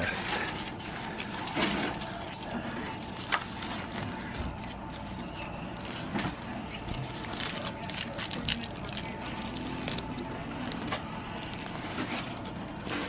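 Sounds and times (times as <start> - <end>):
foil crinkling and rustling: 0.0 - 13.0.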